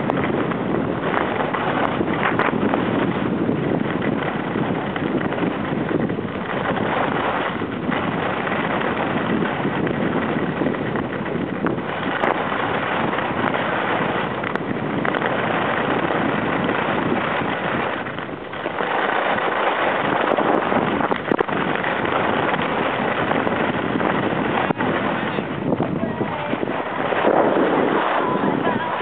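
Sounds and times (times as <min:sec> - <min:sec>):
skis sliding on snow: 0:00.0 - 0:29.0
wind buffeting microphone: 0:00.0 - 0:29.0.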